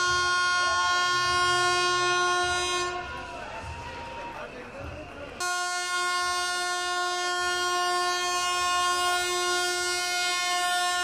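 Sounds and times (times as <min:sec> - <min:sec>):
locomotive air horn blast: 0:00.0 - 0:03.3, 0:05.4 - 0:11.0.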